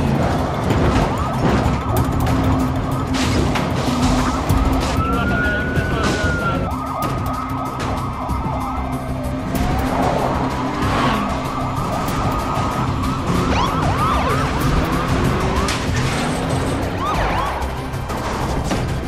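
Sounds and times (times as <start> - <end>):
police siren wailing and yelping: 0.0 - 16.0, 16.6 - 18.0
vehicle engines: 0.0 - 19.0.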